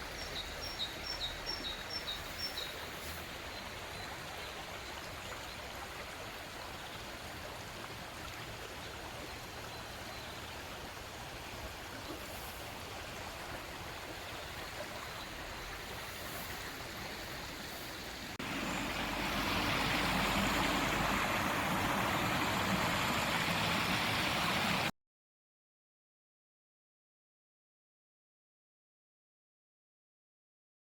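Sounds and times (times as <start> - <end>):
stream flowing: 0.0 - 24.9.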